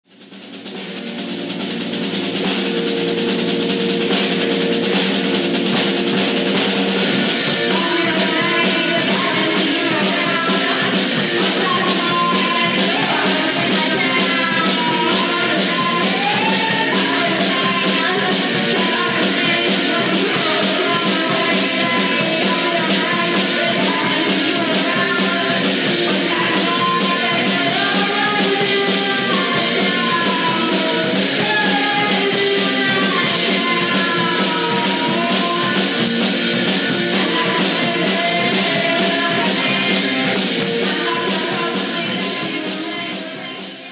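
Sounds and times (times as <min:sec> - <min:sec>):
rock music with drum beat: 0:00.0 - 0:43.9.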